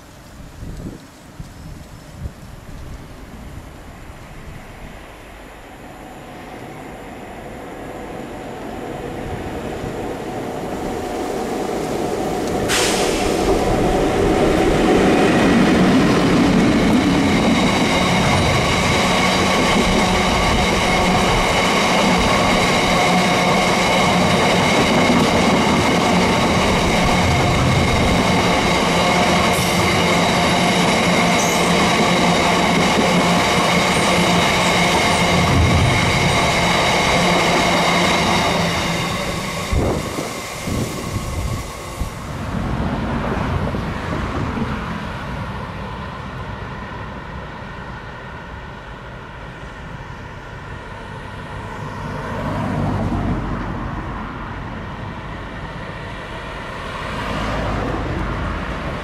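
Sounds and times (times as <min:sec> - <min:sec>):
freight train rumbling past: 0:00.0 - 0:59.0
high whine from train wheels: 0:00.0 - 0:59.0.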